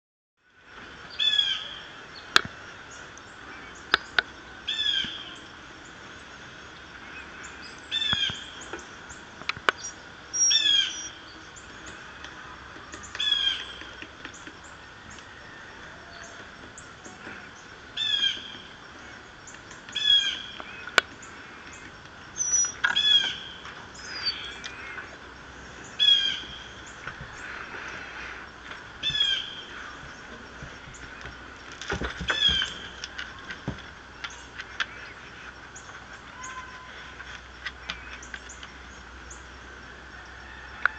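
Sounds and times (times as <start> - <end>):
bird calls: 1.1 - 39.5.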